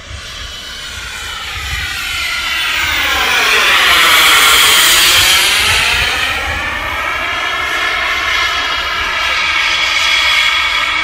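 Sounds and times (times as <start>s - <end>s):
jet engine whine passing overhead: 0.0s - 11.0s.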